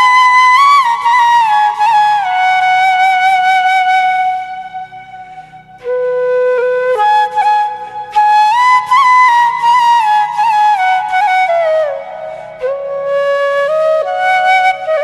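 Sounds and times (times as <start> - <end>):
slow melody of held notes: 0.0 - 15.0.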